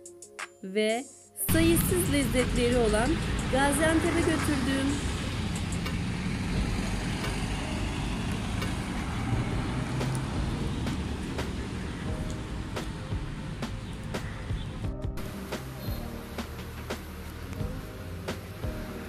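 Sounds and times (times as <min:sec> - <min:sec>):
traffic passing: 0:01.5 - 0:19.0.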